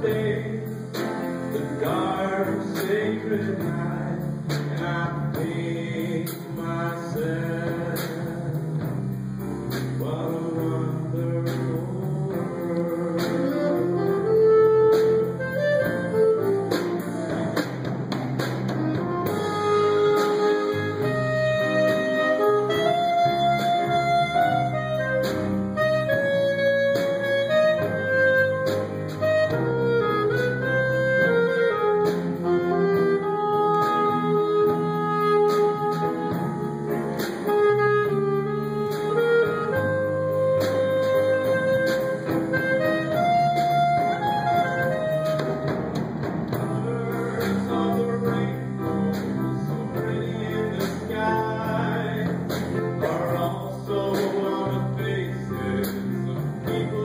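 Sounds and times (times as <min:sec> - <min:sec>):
small jazz combo playing: 0:00.0 - 0:57.0.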